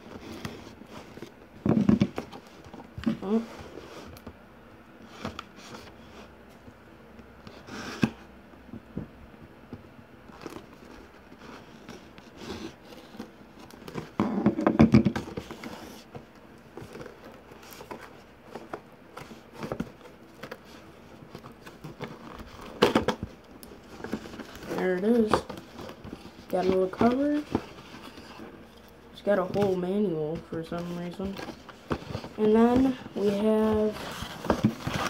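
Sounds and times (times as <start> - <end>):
rubbing and rustling: 0.0 - 4.4, 10.2 - 35.0.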